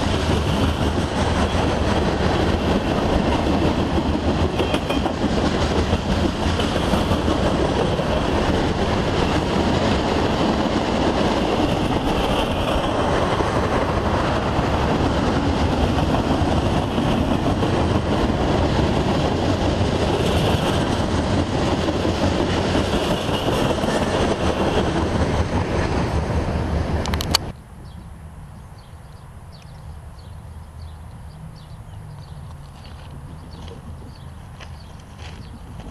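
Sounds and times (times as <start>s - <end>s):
freight train wheels rumbling on rails: 0.0s - 28.0s, 28.9s - 35.9s.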